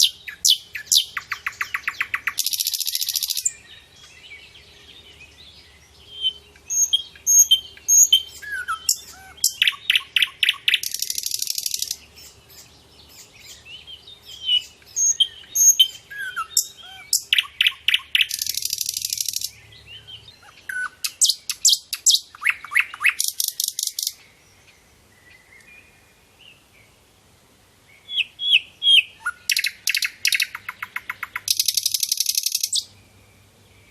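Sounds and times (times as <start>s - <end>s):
songbird singing trills: 0.0s - 27.0s, 27.8s - 33.9s.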